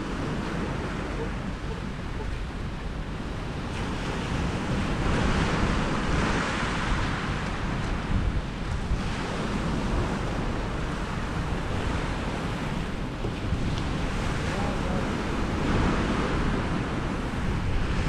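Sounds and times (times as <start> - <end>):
sea surf on rocky shore: 0.0 - 18.0
wind rumbling on microphone: 0.0 - 18.0.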